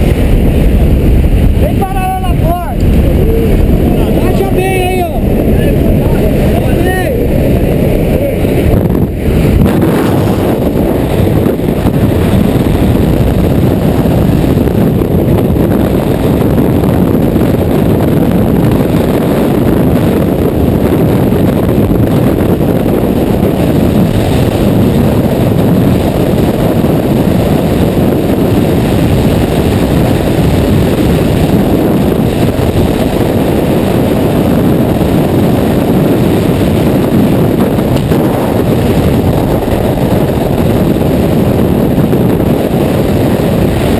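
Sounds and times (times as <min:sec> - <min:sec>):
wind rushing across microphone: 0:00.0 - 0:43.9.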